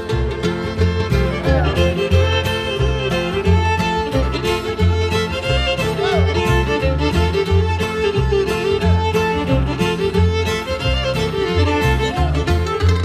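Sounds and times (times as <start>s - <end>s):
bass line: 0.0s - 13.0s
fiddle melody: 0.0s - 13.0s.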